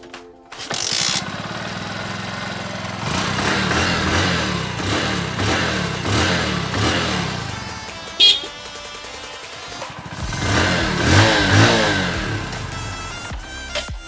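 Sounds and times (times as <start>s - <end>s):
motorcycle engine revving: 0.6s - 13.3s.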